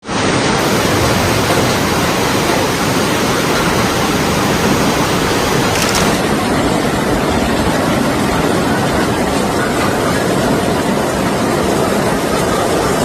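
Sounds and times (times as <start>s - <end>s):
loud rush of water: 0.0s - 13.0s.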